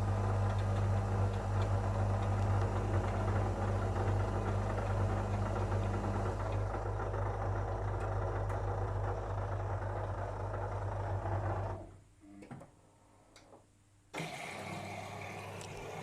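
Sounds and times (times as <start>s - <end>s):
drain pump humming: 0.0s - 11.8s, 14.2s - 16.0s.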